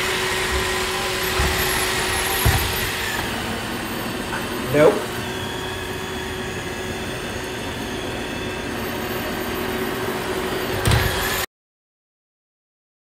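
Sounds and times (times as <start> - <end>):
robot vacuum whirring: 0.0 - 11.5.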